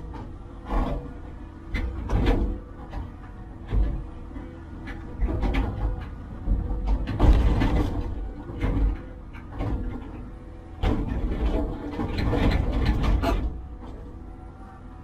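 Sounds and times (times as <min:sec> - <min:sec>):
metallic clanks and clatter: 0:00.0 - 0:14.4
construction machine engine rumble: 0:00.0 - 0:15.0.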